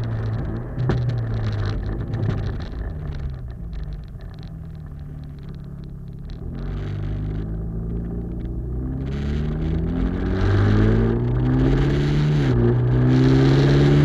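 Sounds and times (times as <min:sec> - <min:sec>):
car exhaust note while driving: 0:00.0 - 0:14.0.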